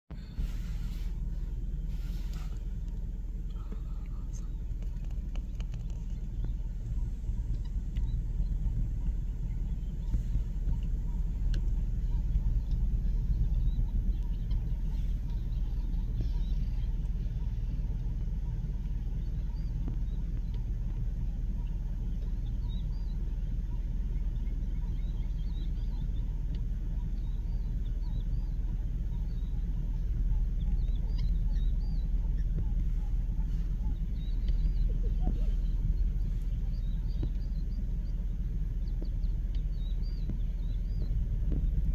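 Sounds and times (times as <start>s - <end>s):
faint bird chirps: 0.1s - 41.9s
vehicle engine idling: 0.1s - 41.9s.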